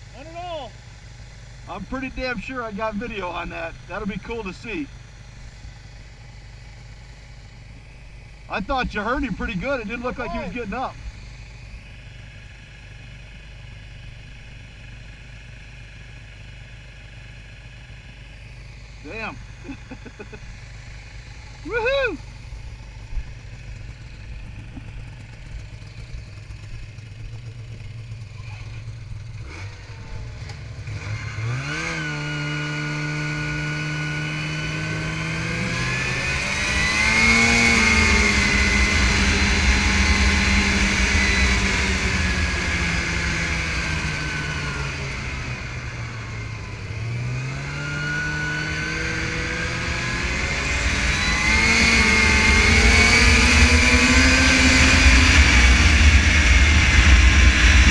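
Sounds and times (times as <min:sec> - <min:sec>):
snowmobile engine revving: 0:00.0 - 0:00.8, 0:01.6 - 0:05.6, 0:07.5 - 0:11.7, 0:18.8 - 0:57.9.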